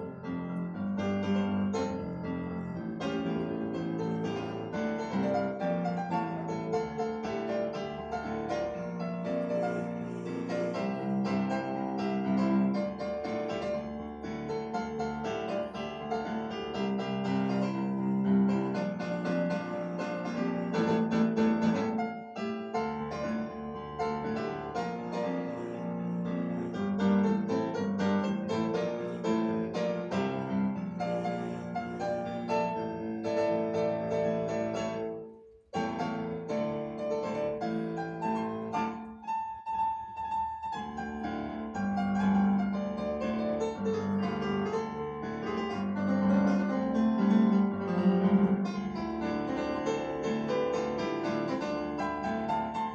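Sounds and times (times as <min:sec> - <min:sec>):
piano music: 0:00.0 - 0:52.9.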